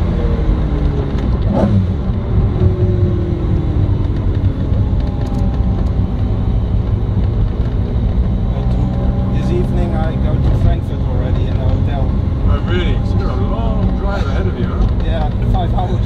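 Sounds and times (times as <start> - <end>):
car engine cruising: 0.0 - 16.0
road noise: 0.0 - 16.0.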